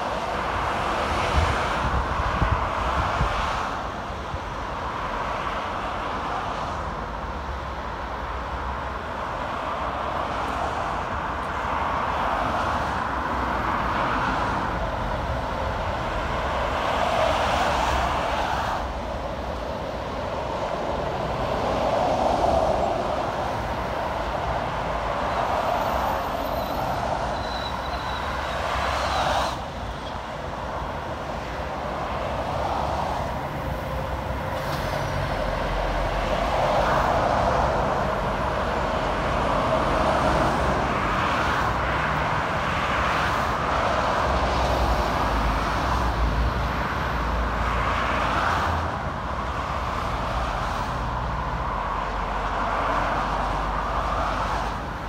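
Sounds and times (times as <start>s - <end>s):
motorway traffic passing: 0.0s - 55.0s.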